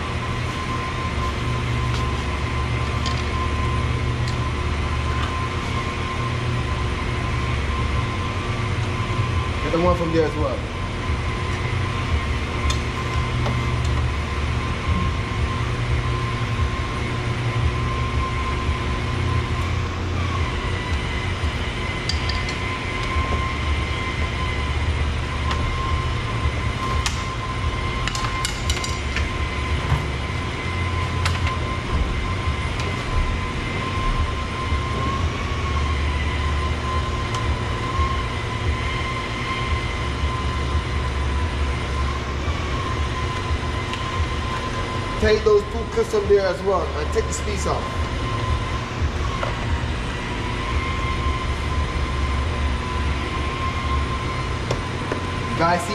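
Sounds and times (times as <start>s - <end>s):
high whine: 0.0s - 55.9s
low mechanical drone: 0.0s - 55.9s.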